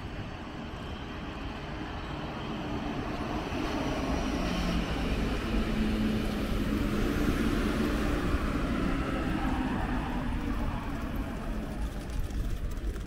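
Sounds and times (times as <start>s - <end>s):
train approaching: 0.0s - 13.0s.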